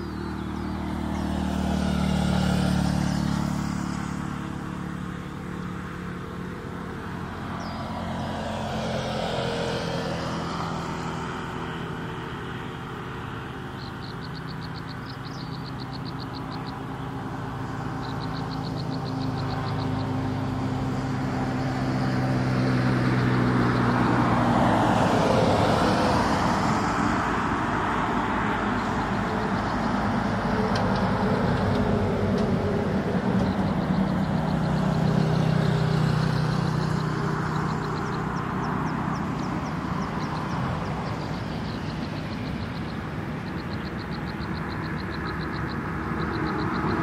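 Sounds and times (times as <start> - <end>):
low engine hum: 0.0 - 47.0
vehicles passing by: 0.0 - 47.0.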